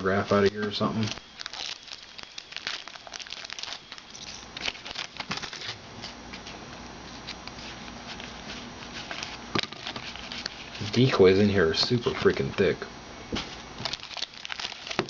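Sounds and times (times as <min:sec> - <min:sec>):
card pack wrappers crinkling: 0:00.0 - 0:06.2, 0:07.1 - 0:12.8, 0:13.4 - 0:15.0.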